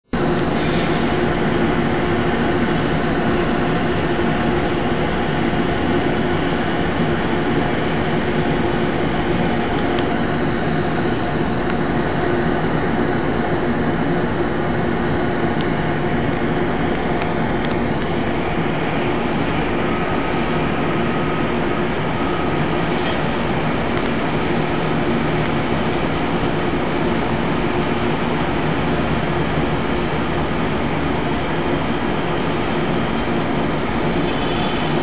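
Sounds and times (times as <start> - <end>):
air conditioning machinery hum: 0.0 - 35.0
distant traffic roar: 0.0 - 35.0.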